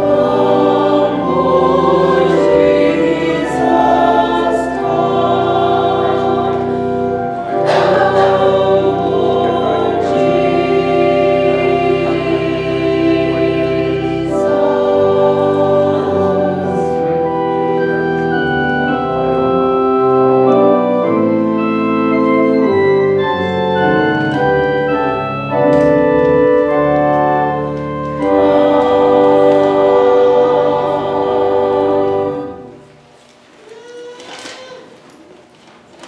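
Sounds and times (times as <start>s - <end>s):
choir singing: 0.0s - 33.1s
church organ chords: 0.0s - 33.2s.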